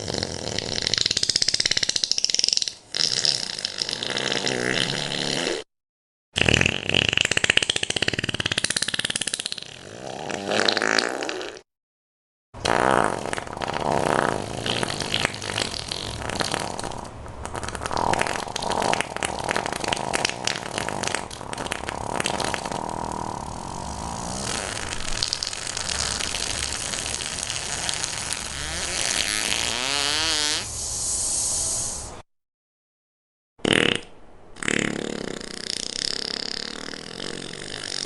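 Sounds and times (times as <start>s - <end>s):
comic fart sound effects: 0.0s - 5.7s, 6.4s - 11.7s, 12.6s - 30.8s, 33.6s - 38.0s.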